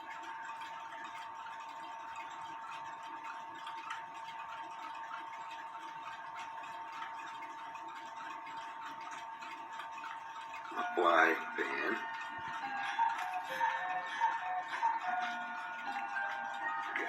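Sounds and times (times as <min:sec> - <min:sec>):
clocks ticking: 0:00.0 - 0:17.0.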